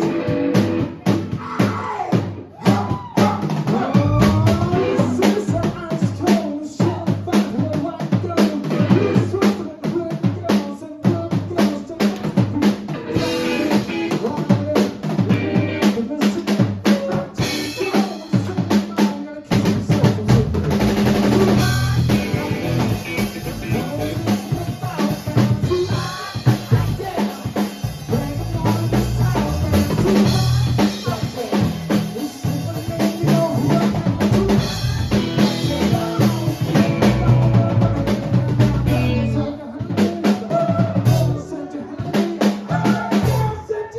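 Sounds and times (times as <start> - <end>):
live rock band playing: 0.0 - 1.6, 2.3 - 6.6, 7.3 - 41.4
drum kit beat: 0.0 - 43.7.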